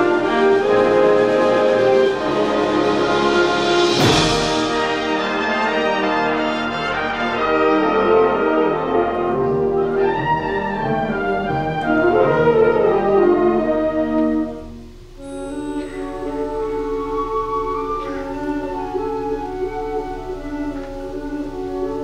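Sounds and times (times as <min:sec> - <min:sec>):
brass chords: 0:00.0 - 0:22.0
wind band playing: 0:00.0 - 0:22.0.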